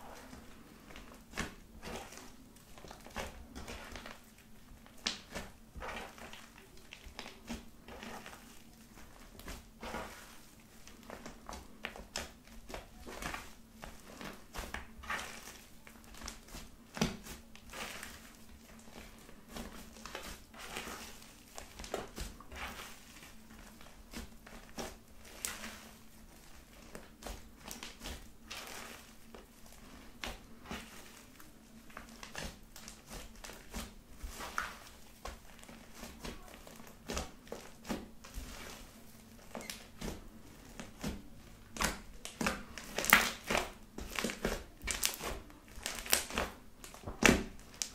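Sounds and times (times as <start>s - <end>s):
slime squelching and crackling: 0.0s - 47.9s.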